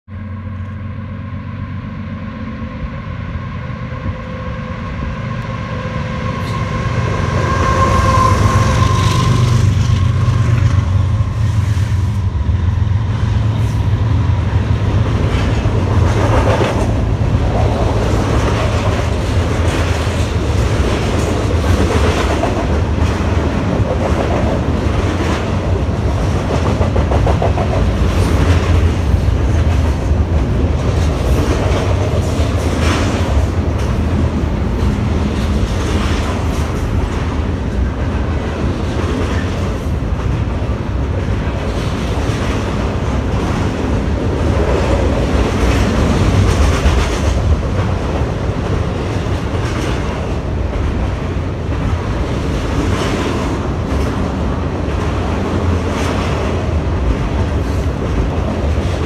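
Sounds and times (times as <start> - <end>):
diesel locomotives passing: 0.1 - 59.0.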